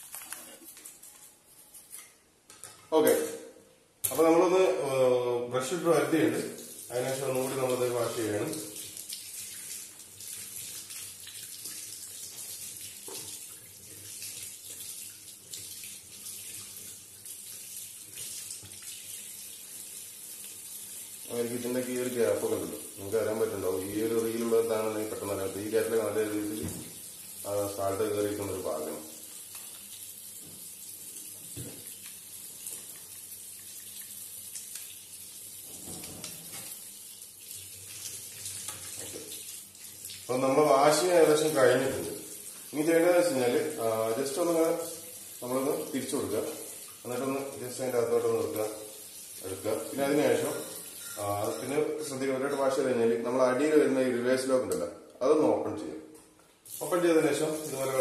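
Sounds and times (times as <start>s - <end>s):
water splashing from tap: 6.1s - 51.8s, 56.6s - 58.0s.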